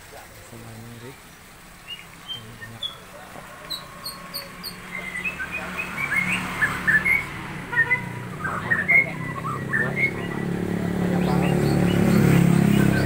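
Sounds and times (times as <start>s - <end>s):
caged songbirds chirping: 0.0s - 13.0s.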